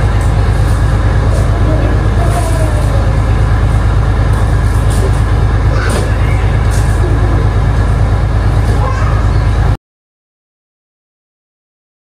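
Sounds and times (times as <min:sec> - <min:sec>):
heavy engine running: 0:00.0 - 0:09.8.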